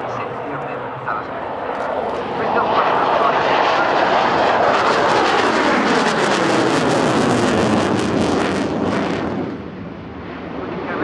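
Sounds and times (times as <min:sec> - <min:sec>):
jet engine afterburner roar: 0:00.0 - 0:11.0.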